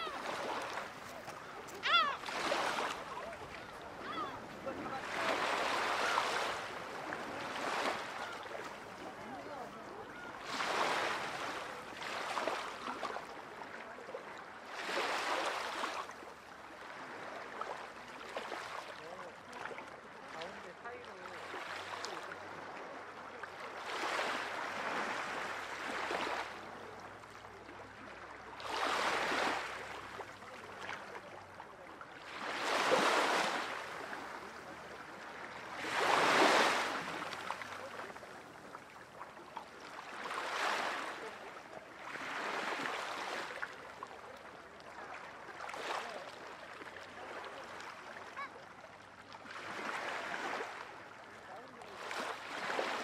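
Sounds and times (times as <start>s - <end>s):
small waves washing on shore: 0.0s - 53.0s.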